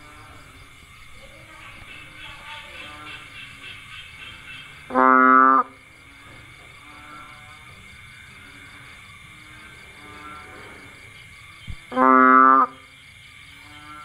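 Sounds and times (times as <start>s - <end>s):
bullfrog low moo-like call: 0.0s - 0.8s, 1.7s - 14.0s
faint frog calls: 0.0s - 14.0s.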